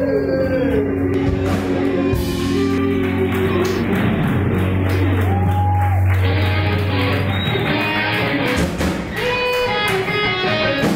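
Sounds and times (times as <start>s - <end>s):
electric guitars: 0.0s - 10.9s
live rock band playing: 0.0s - 10.9s.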